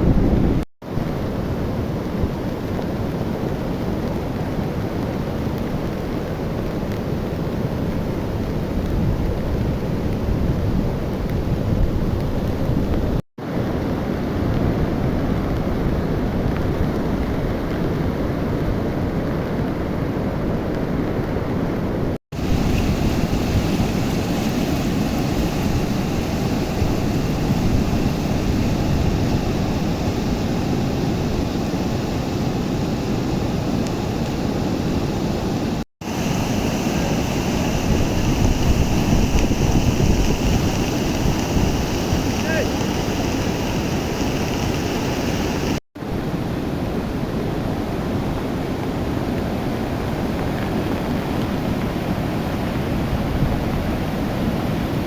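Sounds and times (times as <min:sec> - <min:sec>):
wind buffeting microphone: 0:00.0 - 0:03.1, 0:07.5 - 0:13.2, 0:13.8 - 0:55.0
river rushing in flood: 0:00.0 - 0:55.0.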